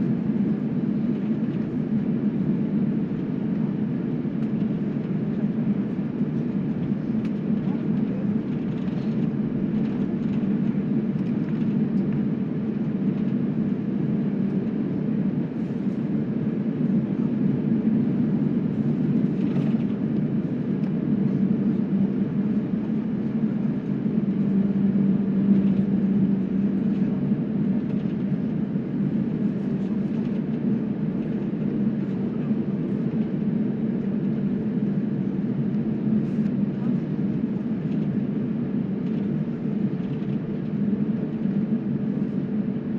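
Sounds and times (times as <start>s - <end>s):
jet engines humming in cabin: 0.0s - 42.9s.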